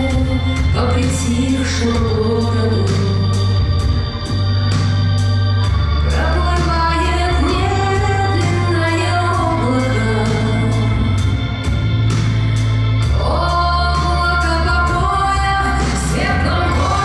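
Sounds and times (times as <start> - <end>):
person singing: 0.0 - 4.1, 6.0 - 11.9, 13.0 - 17.0
organ-like keyboard: 0.0 - 17.0
sustained bass notes: 0.0 - 17.0.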